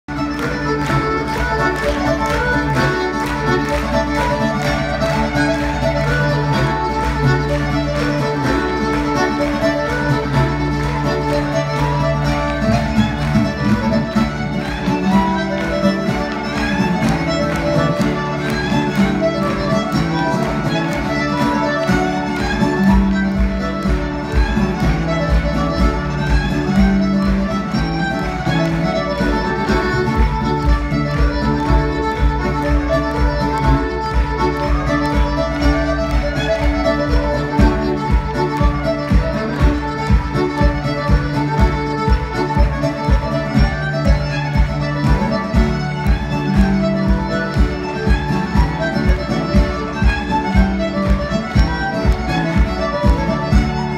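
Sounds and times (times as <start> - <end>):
fiddle: 0.0 - 53.9
guitar accompaniment: 0.1 - 53.9.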